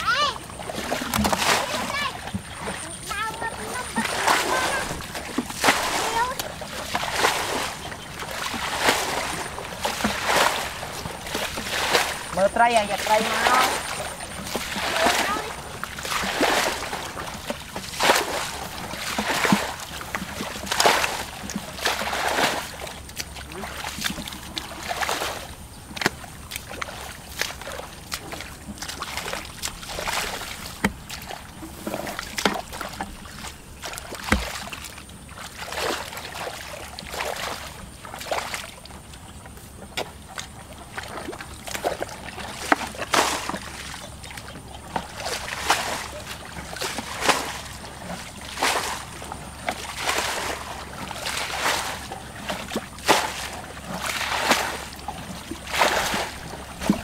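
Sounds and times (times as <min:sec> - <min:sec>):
bucket scooping water: 0:00.0 - 0:57.0
water splashing: 0:00.0 - 0:57.0.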